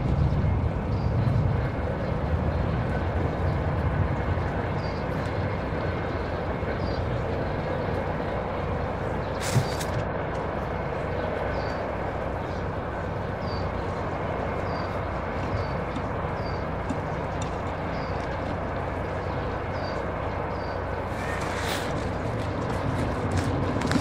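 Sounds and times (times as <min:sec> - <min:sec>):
outdoor rushing noise: 0:00.0 - 0:24.0.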